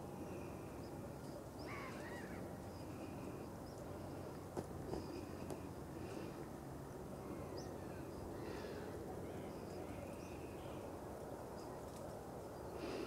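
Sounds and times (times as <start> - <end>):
faint bird calls: 0.0 - 6.4, 7.1 - 13.0
outdoor background noise: 0.0 - 13.0.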